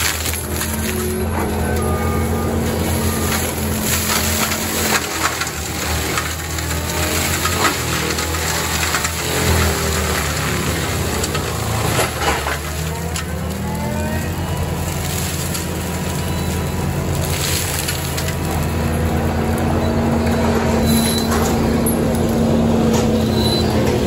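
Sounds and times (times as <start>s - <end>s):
wood cracking: 0.0s - 20.6s
forestry mulcher grinding brush: 0.0s - 24.0s.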